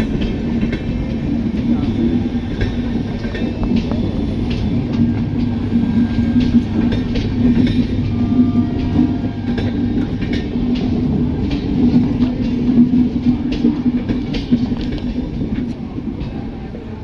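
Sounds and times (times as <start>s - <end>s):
train coaches rumbling past: 0.0s - 17.0s
wheels clacking over rail joints: 0.0s - 17.0s.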